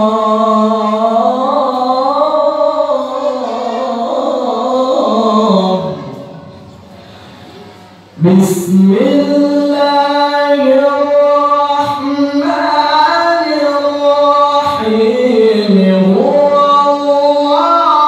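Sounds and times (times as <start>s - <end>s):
man reciting melodically: 0.0s - 6.8s, 8.2s - 18.0s.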